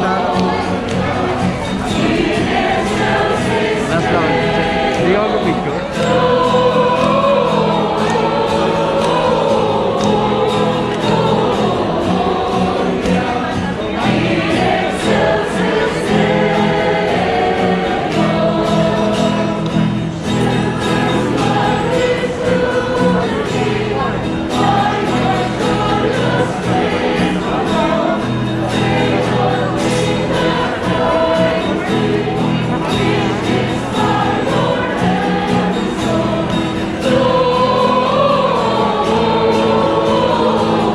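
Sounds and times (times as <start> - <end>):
choir singing: 0.0 - 40.9
instrumental accompaniment: 0.0 - 40.9.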